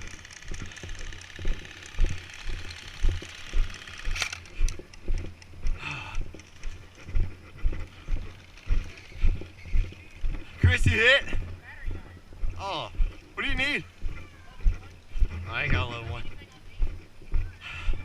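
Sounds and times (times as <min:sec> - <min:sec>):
footsteps walking: 0:00.0 - 0:18.0.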